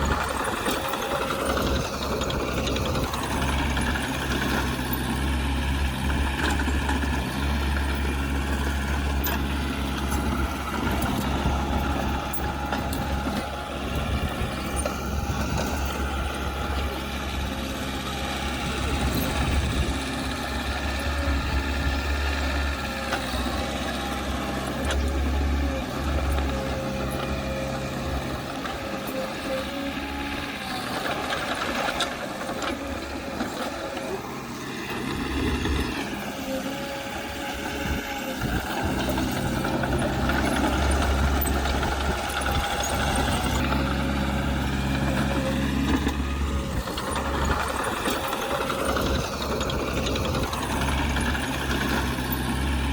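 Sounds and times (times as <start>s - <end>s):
diesel engines rumbling: 0.0s - 52.9s.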